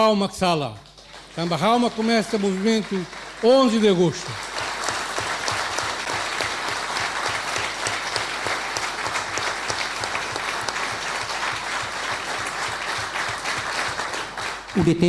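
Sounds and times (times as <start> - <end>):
audience applauding: 0.8 - 15.0.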